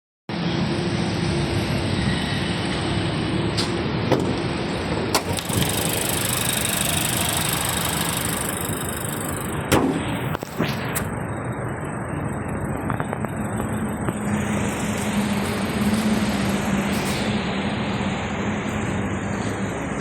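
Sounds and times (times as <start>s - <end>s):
car engine idling: 2.9s - 19.9s.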